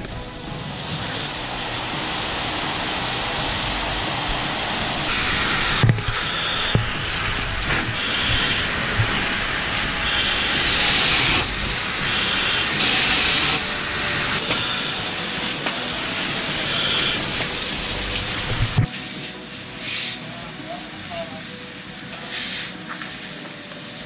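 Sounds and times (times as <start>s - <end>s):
loud rushing hiss: 0.0s - 24.0s.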